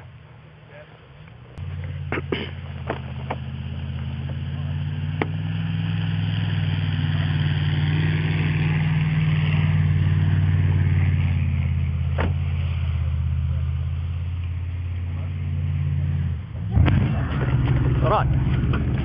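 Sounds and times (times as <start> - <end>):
truck engine droning: 0.0 - 19.0.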